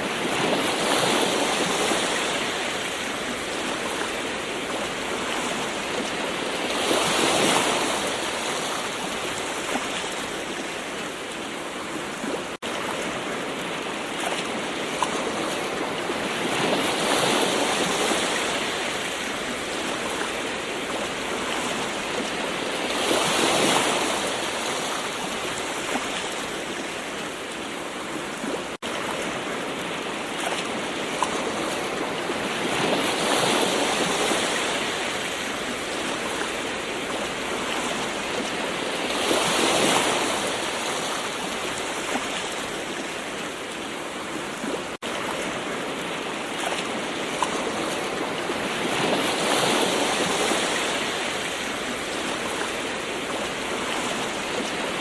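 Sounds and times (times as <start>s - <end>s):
ocean waves washing in: 0.0s - 55.0s.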